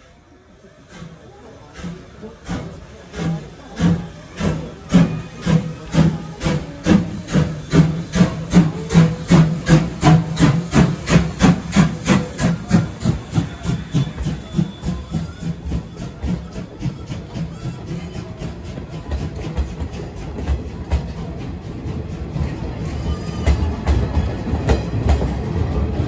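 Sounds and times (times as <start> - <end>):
steam hissing: 0.0 - 22.7
steam locomotive chuffing: 0.0 - 26.0.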